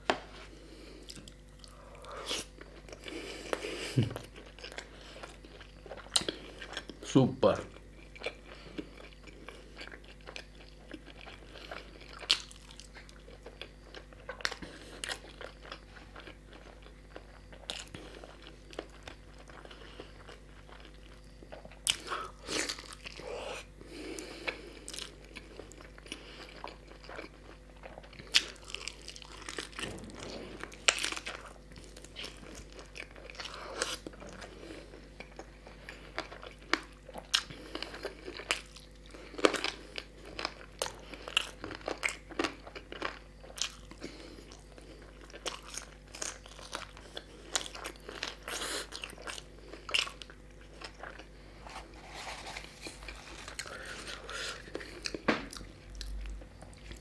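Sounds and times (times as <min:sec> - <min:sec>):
man chewing and biting: 0:07.8 - 0:57.0.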